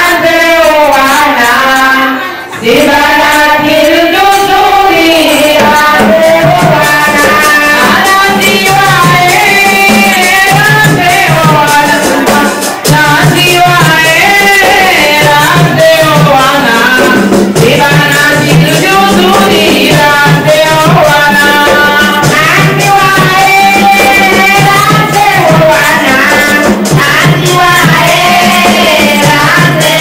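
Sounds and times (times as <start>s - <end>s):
drum played with sticks: 0.0s - 30.0s
women singing into microphones: 0.0s - 30.0s
hand drum: 2.7s - 30.0s.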